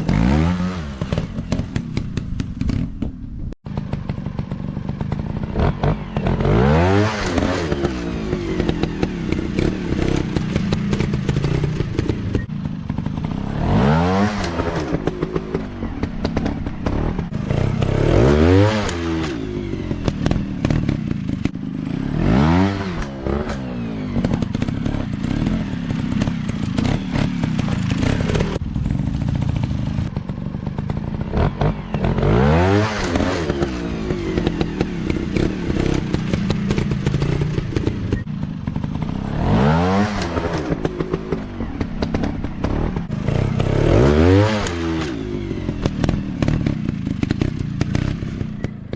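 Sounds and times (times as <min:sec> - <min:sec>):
dirt bike engines revving: 0:03.7 - 0:48.9.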